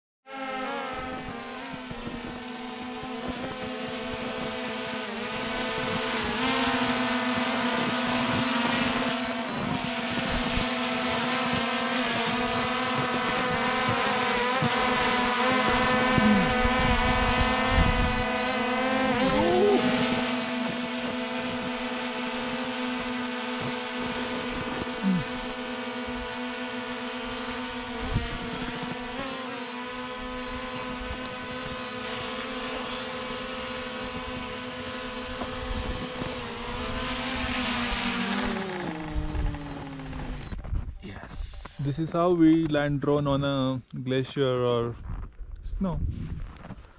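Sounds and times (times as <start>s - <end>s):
drone propellers buzzing: 0.3s - 41.8s.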